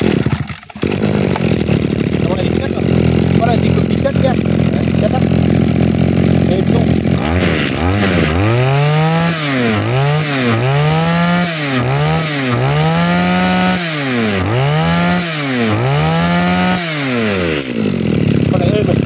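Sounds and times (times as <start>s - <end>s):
brush cutter engine revving: 0.0s - 19.0s.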